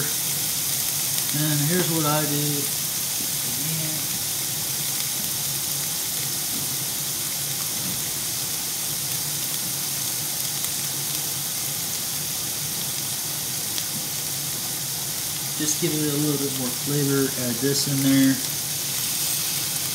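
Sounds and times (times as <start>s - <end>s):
patties sizzling in a frying pan: 0.0s - 19.9s.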